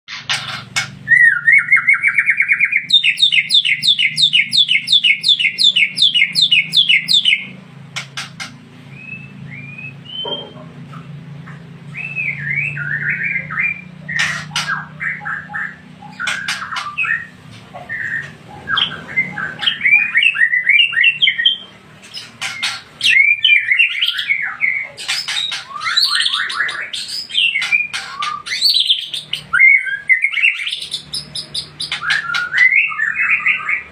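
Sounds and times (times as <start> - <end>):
bird singing loudly: 0.1 - 7.6, 8.2 - 10.6, 11.8 - 33.9
steady low hum: 0.1 - 33.0.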